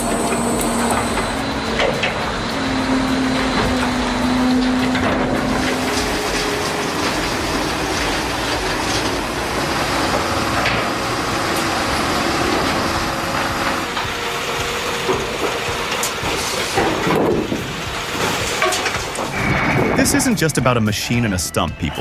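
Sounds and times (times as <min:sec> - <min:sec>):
heavy machinery engine clattering: 0:00.0 - 0:22.0.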